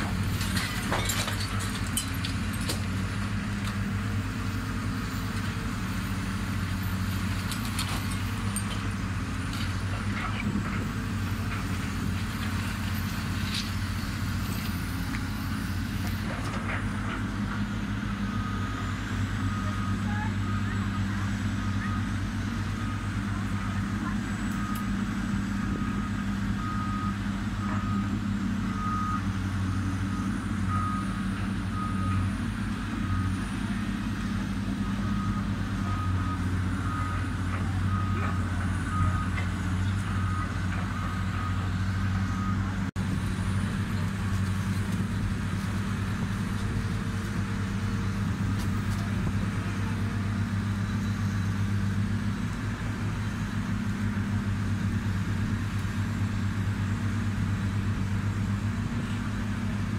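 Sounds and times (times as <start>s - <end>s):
demolition machinery humming: 0.0s - 59.9s.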